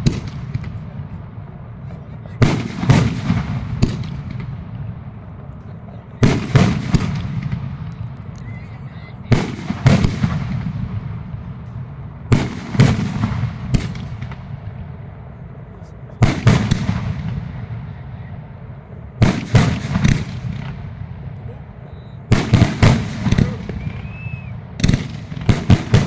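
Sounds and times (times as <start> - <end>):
fireworks bangs: 0.0 - 5.5, 6.2 - 8.6, 9.2 - 15.2, 16.2 - 18.3, 19.2 - 21.4, 22.0 - 26.0
fireworks rumble and crackle: 0.0 - 26.0.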